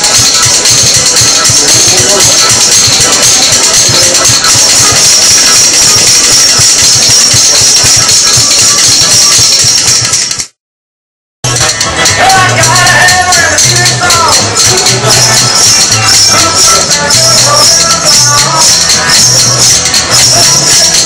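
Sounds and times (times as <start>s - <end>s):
rhythm bones clattering: 0.0s - 10.6s, 11.4s - 21.0s.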